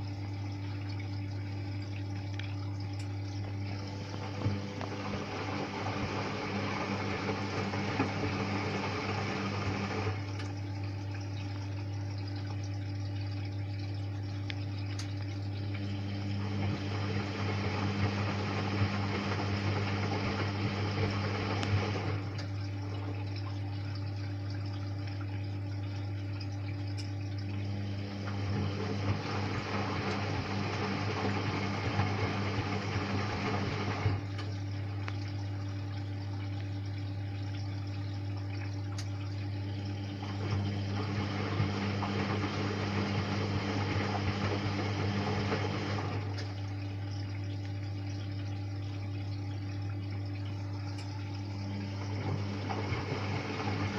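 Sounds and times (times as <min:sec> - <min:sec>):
washing machine low hum: 0:00.0 - 0:53.9
washing machine water swishing: 0:00.0 - 0:53.9.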